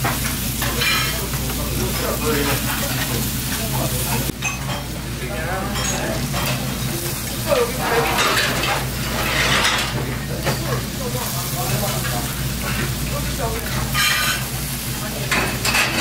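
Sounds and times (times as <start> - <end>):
faint diners' voices: 0.0 - 16.0
meat sizzling on grill: 0.0 - 16.0.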